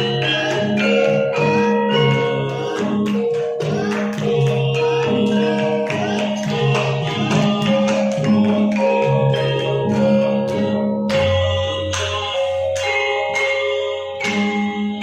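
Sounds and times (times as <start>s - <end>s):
metallophone melody: 0.0s - 15.0s.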